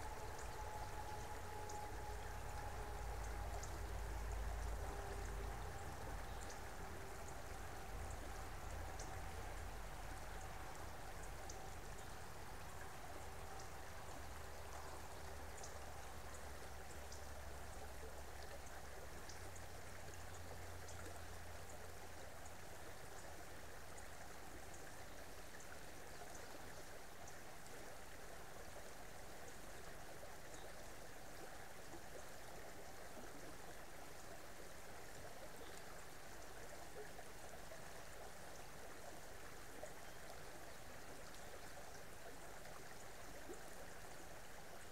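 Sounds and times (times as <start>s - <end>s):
creek water flowing: 0.0s - 44.9s.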